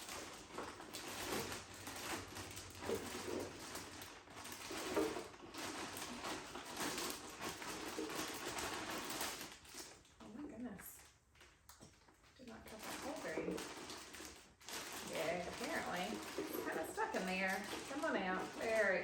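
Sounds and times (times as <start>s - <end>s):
plastic packaging rustling and clatter: 0.0s - 19.0s.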